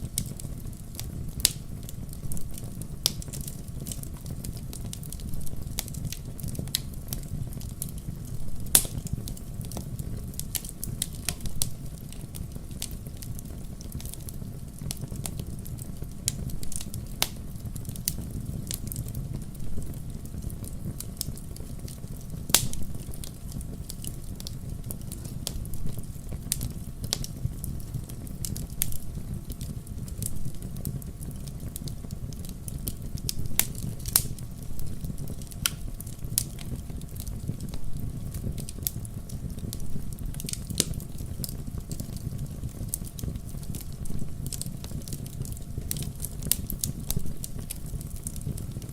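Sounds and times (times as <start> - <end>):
fire crackling in fireplace: 0.0 - 48.9.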